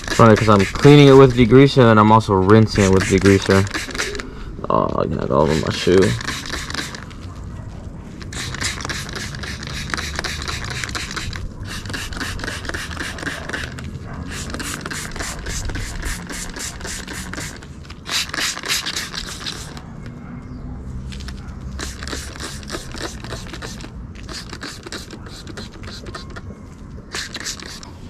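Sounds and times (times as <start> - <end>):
brush scrubbing metal: 0.0 - 1.6, 2.5 - 4.2, 5.4 - 7.2, 8.2 - 19.8, 21.2 - 26.4, 27.2 - 28.0.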